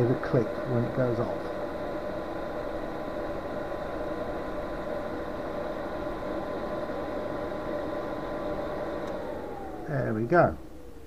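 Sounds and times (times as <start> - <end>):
heater fan running: 0.0 - 11.0.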